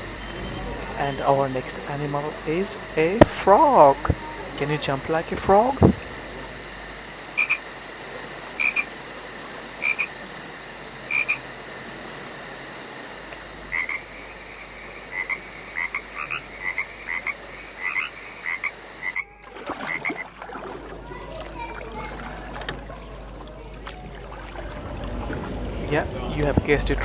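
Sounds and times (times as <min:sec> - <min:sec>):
frogs croaking: 0:00.0 - 0:27.0.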